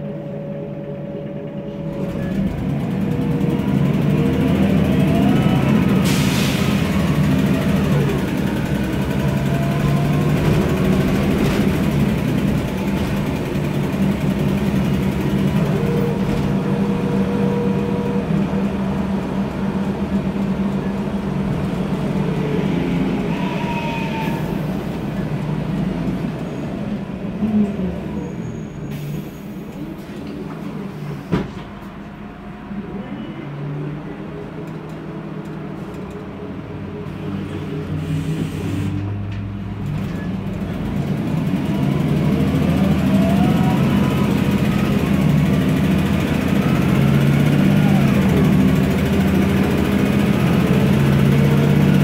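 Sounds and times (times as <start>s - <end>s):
bus engine humming: 0.0s - 52.0s.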